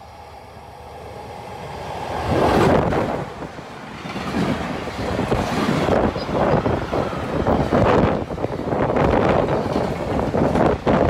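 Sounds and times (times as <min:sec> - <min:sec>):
electric locomotive rushing by: 0:00.0 - 0:11.0.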